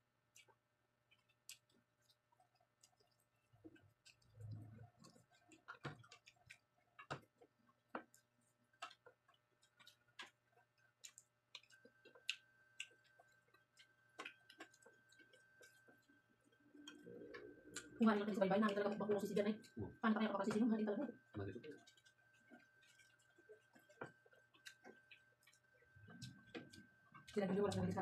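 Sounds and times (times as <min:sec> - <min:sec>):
low steady hum: 0:00.0 - 0:28.0
small clicks and ticks: 0:00.2 - 0:19.8, 0:21.4 - 0:27.9.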